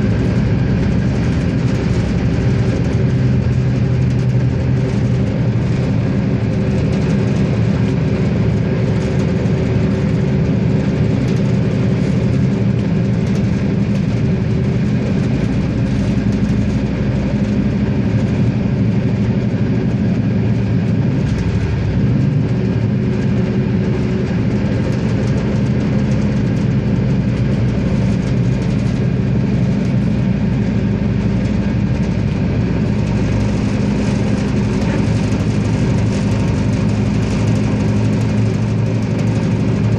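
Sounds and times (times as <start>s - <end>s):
train diesel engine droning: 0.0s - 39.9s.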